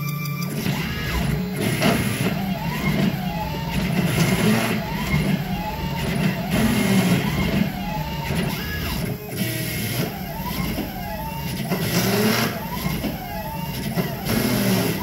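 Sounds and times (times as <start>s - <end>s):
machine low hum: 0.0s - 15.0s
stepper motors whining: 0.0s - 15.0s.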